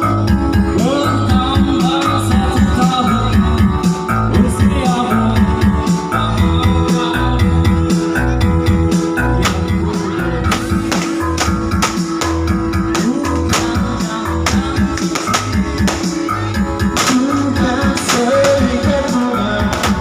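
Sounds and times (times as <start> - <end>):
guitar bass and drum music: 0.0 - 20.0.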